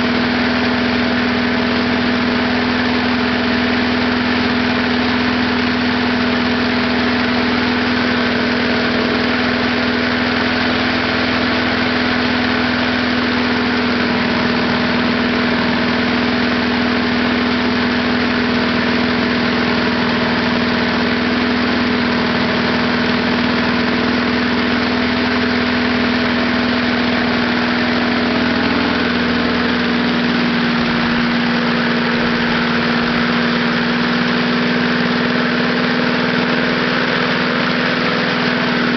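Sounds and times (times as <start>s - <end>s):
lawnmower engine idling: 0.0s - 38.9s.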